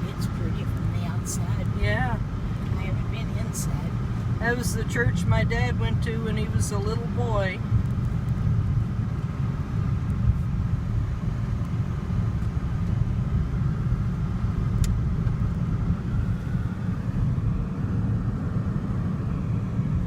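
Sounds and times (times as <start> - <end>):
car cabin road and engine noise: 0.0 - 20.0.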